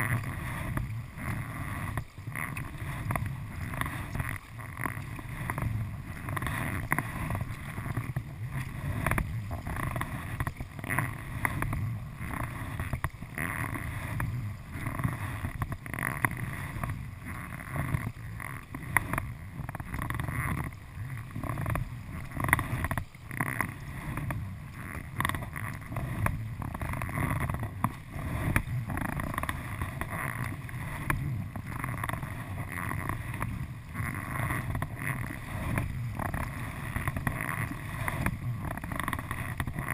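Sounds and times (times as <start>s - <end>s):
kayak paddle strokes in water: 0.0s - 39.9s
water lapping against kayak hull: 0.0s - 39.9s.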